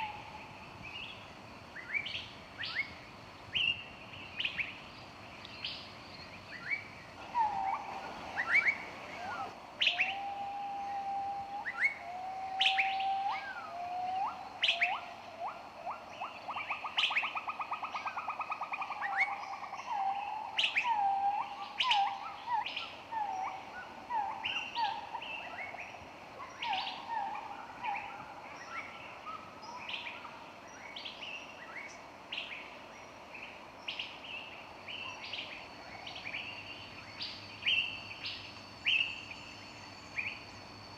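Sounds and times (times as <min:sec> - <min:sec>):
songbirds chirping and whistling: 0:00.0 - 0:40.9.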